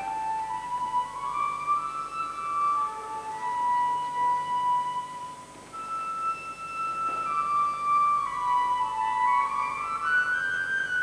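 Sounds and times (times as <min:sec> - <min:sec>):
slow wind instrument melody: 0:00.0 - 0:11.0.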